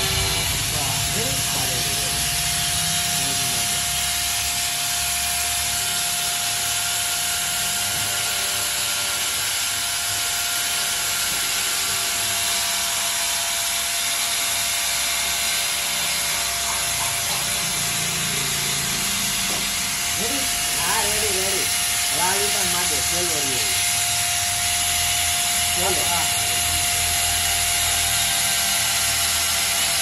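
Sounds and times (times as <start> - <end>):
angle grinder cutting plastic: 0.0 - 30.0.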